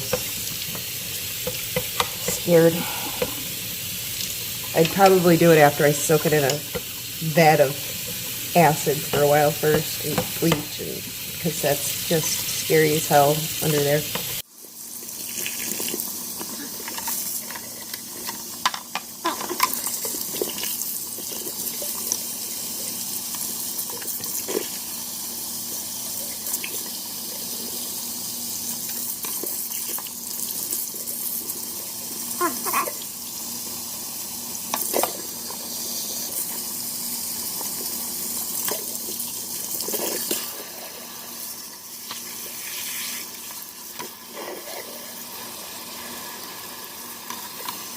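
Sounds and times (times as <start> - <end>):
tap water running and splashing: 0.0 - 47.9.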